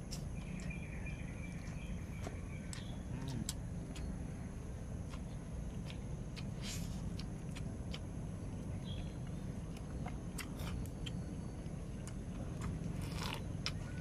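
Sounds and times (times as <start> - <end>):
person chewing food: 1.5 - 14.0.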